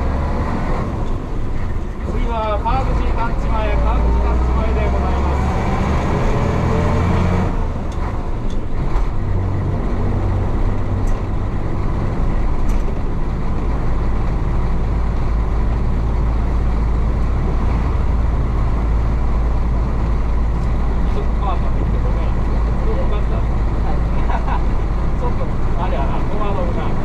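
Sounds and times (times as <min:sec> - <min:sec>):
bus diesel engine droning: 0:00.0 - 0:27.0
road noise: 0:00.0 - 0:27.0.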